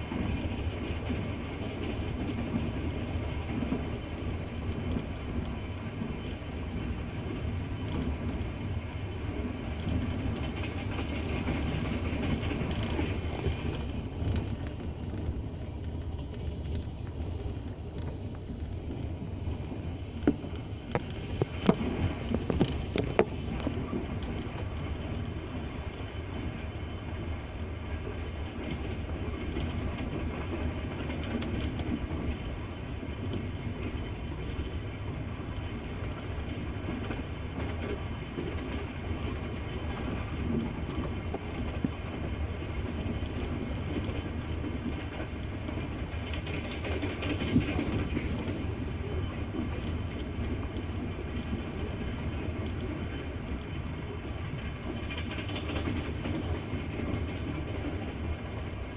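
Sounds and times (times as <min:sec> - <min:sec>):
train wheels clattering over rail joints: 0:00.0 - 0:27.0, 0:27.6 - 0:58.9
train coaches rumbling by: 0:00.0 - 0:58.9.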